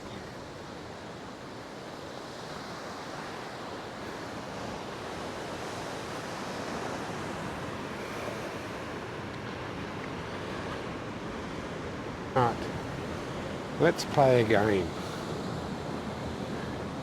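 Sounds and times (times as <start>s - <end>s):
waves on rough sea: 0.0s - 17.0s.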